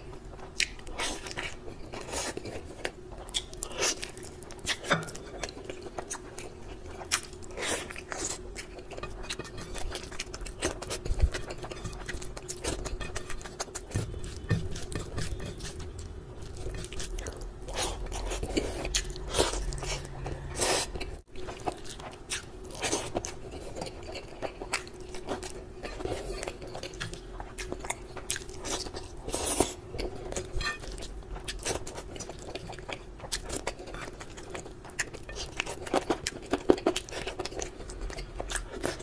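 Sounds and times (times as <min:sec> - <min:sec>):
man chewing and smacking: 0:00.3 - 0:39.0.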